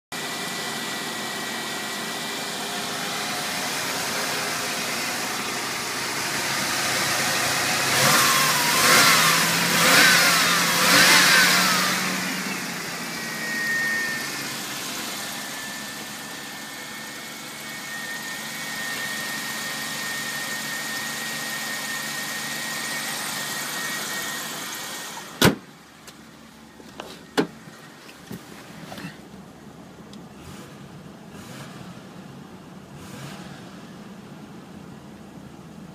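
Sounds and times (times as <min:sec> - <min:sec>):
rotary engine idling and revving: 0:00.1 - 0:25.4, 0:30.1 - 0:34.5.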